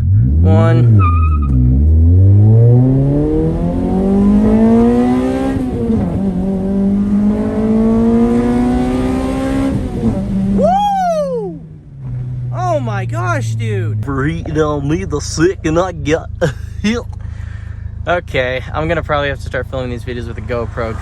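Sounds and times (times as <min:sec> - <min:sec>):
car engine accelerating hard: 0:00.0 - 0:10.8, 0:11.5 - 0:21.0.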